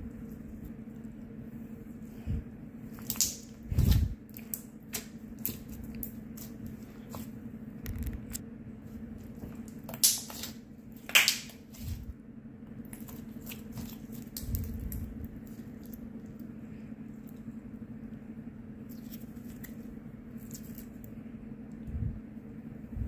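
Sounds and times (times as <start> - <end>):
low hum: 0.0 - 10.0, 10.6 - 23.0
slime squelch: 0.0 - 21.9
slime squishing: 2.6 - 21.4.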